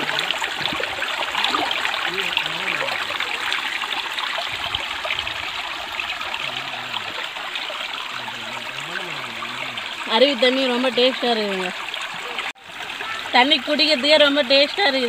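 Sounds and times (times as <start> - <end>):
stream trickling over rocks: 0.0 - 15.0.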